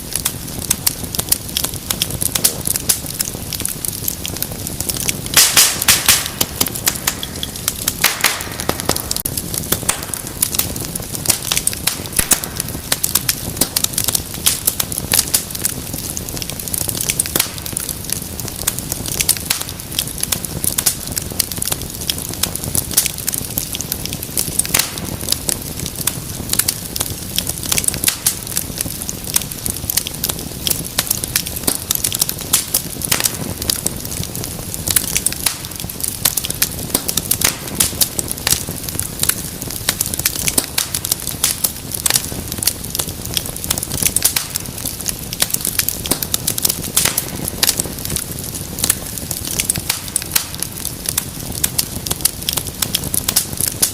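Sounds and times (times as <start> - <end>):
fire crackling and popping: 0.0 - 53.9
low rush of flame: 0.0 - 53.9.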